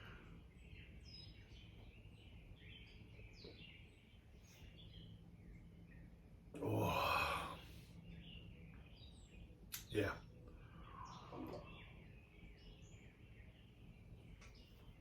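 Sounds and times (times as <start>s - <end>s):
faint birds chirping: 0.0s - 15.0s
low steady hum: 0.0s - 15.0s.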